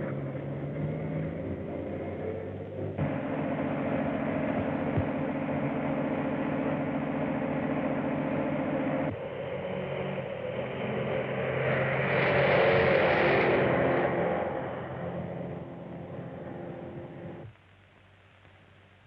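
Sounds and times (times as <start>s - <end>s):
another engine running: 0.0s - 17.5s
engine running with fast pulse: 0.0s - 17.5s.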